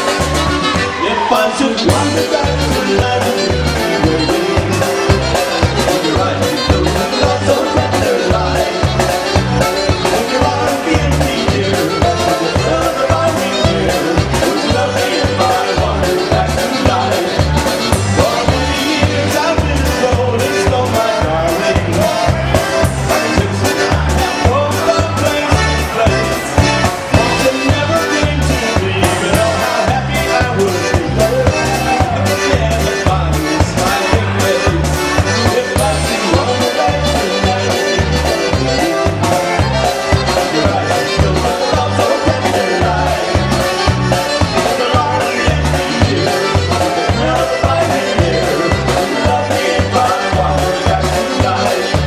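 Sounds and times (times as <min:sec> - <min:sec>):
accordion melody: 0:00.0 - 0:52.0
live band playing polka: 0:00.0 - 0:52.0
oom-pah bass: 0:00.0 - 0:52.0
drum strokes: 0:01.9 - 0:52.0.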